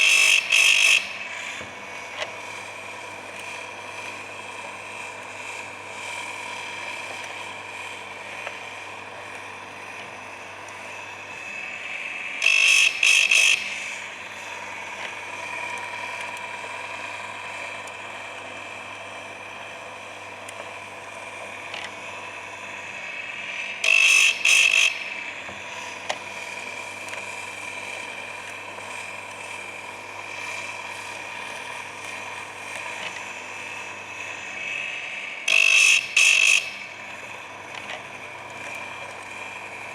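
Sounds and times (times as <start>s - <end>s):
grinding wheel whine: 0.0s - 39.9s.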